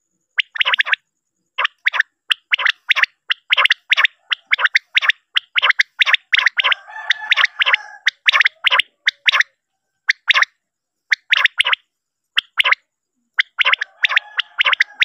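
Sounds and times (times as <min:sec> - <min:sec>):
quail calls: 0:00.4 - 0:01.0, 0:01.6 - 0:10.5, 0:11.1 - 0:11.8, 0:12.4 - 0:12.8, 0:13.4 - 0:15.0.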